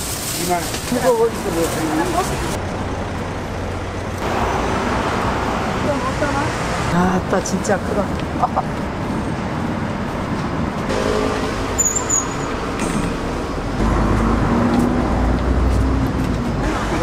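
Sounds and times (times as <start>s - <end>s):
large vehicle engine rumble: 0.0s - 17.0s
road traffic: 0.0s - 17.0s.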